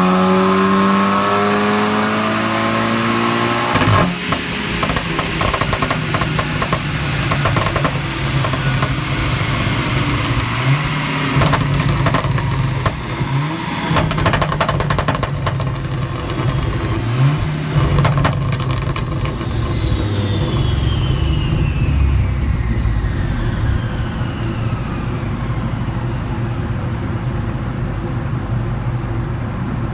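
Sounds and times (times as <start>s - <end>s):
exhaust crackling and popping: 0.0s - 26.3s
car engine revving: 0.0s - 27.8s.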